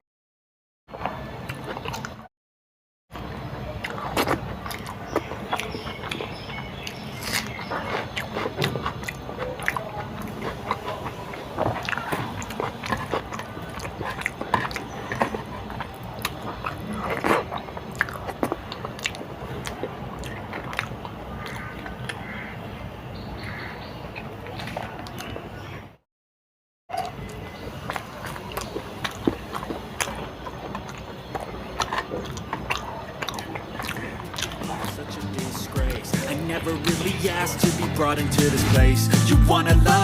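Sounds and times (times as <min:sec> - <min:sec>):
person chewing crunchy food: 0:00.9 - 0:02.3, 0:03.2 - 0:22.5, 0:26.9 - 0:40.0.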